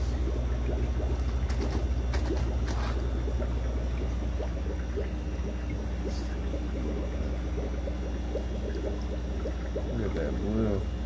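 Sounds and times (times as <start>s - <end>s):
steady low hum: 0.0s - 11.0s
water dripping and trickling: 0.0s - 11.0s.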